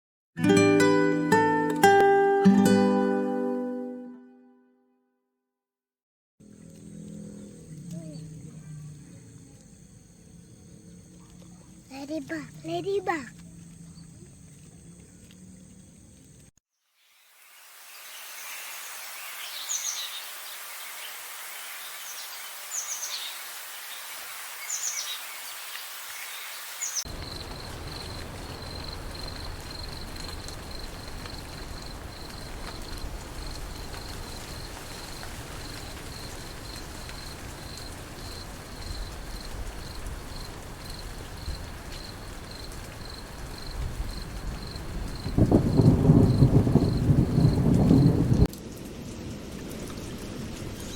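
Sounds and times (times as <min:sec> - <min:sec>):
insect chirping: 0:06.4 - 0:48.5.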